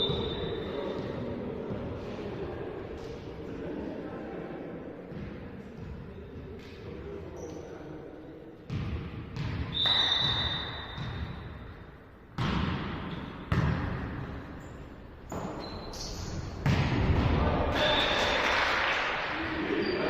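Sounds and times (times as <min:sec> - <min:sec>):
low murmur of sports hall: 0:00.0 - 0:20.0.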